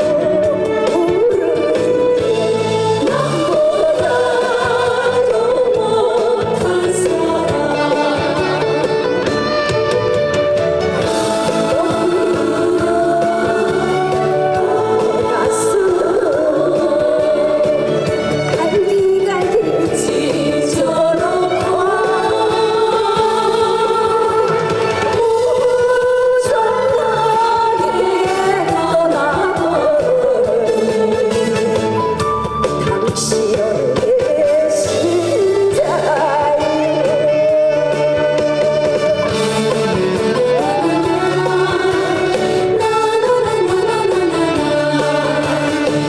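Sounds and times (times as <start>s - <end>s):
woman singing into a microphone: 0.0s - 9.6s, 11.4s - 39.6s, 40.2s - 46.0s
backing track with drum beat: 0.0s - 46.0s
instrumental accompaniment: 0.0s - 46.0s.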